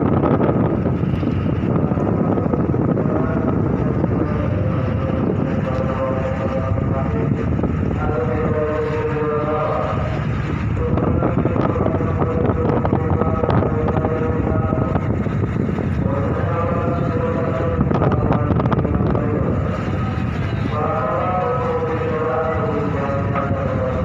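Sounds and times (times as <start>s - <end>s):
ferry engines rumbling: 0.0s - 24.0s
wind buffeting microphone: 0.0s - 24.0s.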